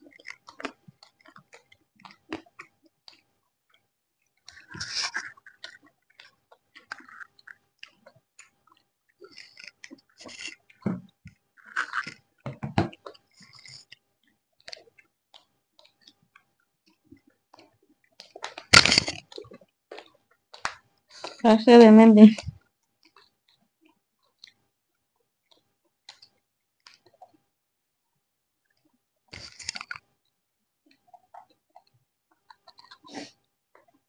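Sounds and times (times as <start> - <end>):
people chewing and crunching: 0.0 - 21.4, 22.3 - 27.4, 28.6 - 30.2, 30.8 - 34.0.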